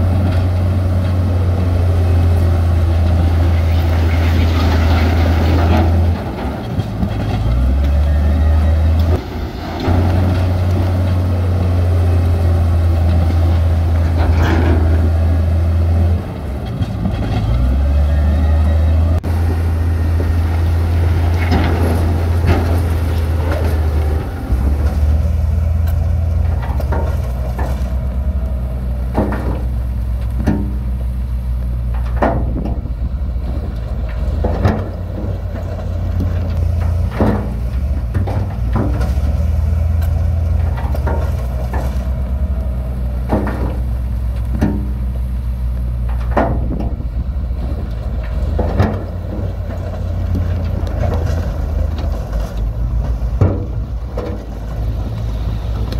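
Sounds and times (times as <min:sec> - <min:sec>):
diesel construction machinery running: 0:00.0 - 0:55.9.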